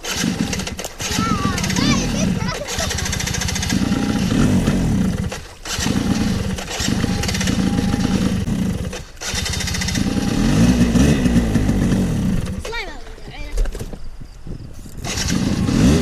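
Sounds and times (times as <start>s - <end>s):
quad bike engine revving: 0.0s - 12.9s, 15.0s - 16.0s.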